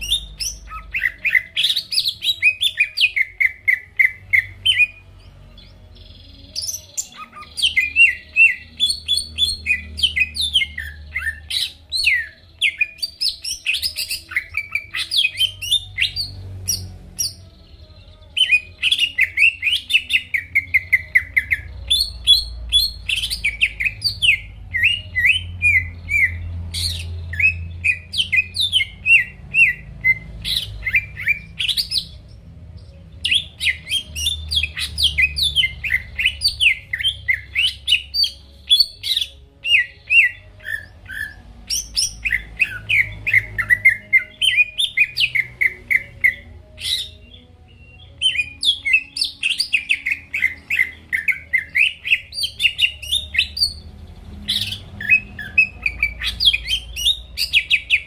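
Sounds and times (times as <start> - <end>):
bird singing high chirps: 0.0 - 58.0.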